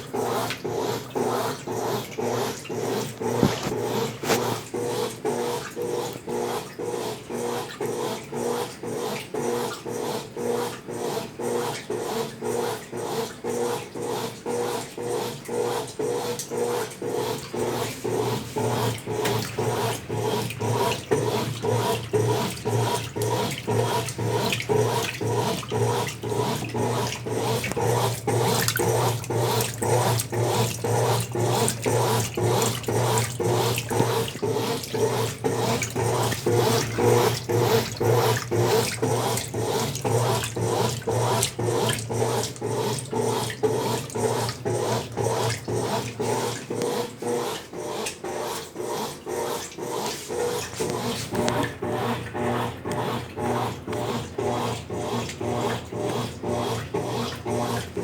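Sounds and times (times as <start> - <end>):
washing machine churning: 0.0 - 58.0.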